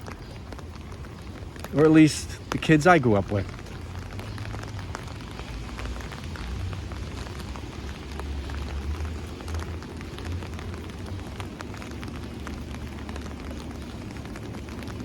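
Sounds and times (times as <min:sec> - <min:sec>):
steady rain with drop ticks: 0:00.0 - 0:15.0.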